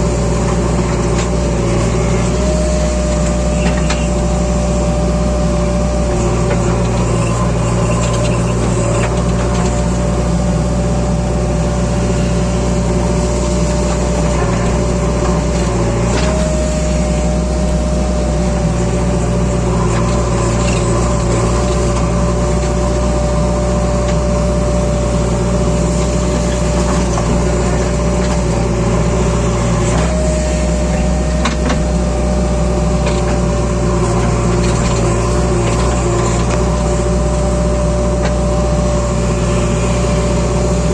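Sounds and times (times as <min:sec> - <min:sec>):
diesel engine running: 0:00.0 - 0:40.9
steady whine: 0:00.0 - 0:40.9.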